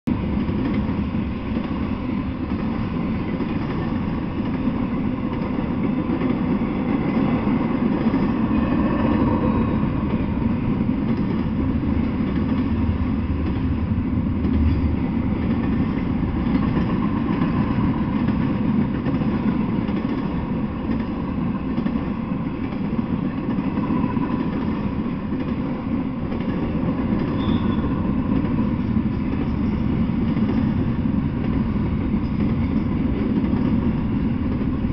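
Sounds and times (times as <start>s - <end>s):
freight train rumbling on rails: 0.0s - 34.9s.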